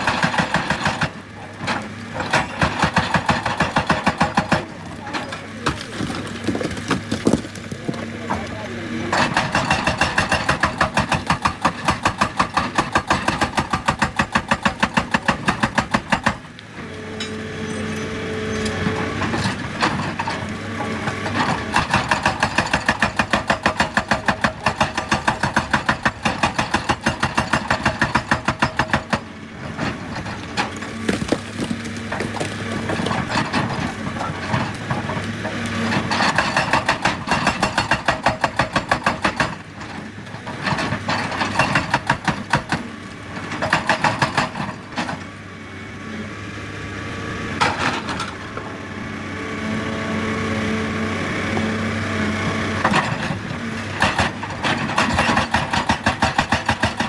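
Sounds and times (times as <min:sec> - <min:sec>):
hydraulic rock breaker hammering: 0:00.0 - 0:16.5, 0:17.1 - 0:45.3, 0:52.8 - 0:57.0
diesel engine running: 0:00.0 - 0:57.0.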